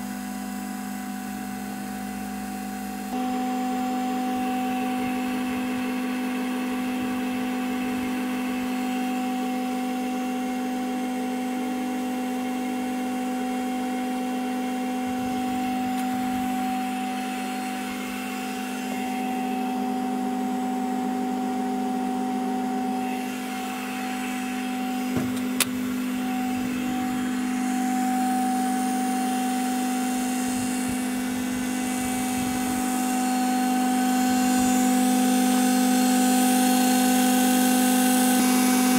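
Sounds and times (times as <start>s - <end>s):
centrifuge humming whine: 0.0s - 38.9s.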